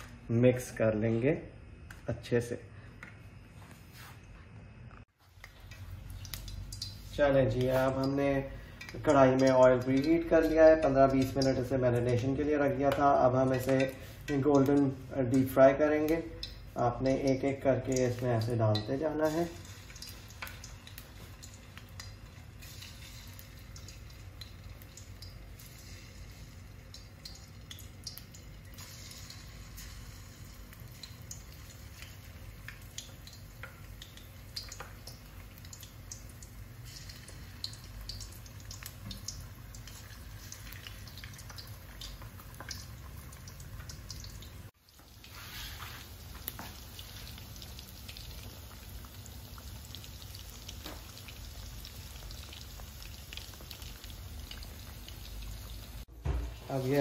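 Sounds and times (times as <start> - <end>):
chicken deep-frying in oil: 5.1 - 57.0.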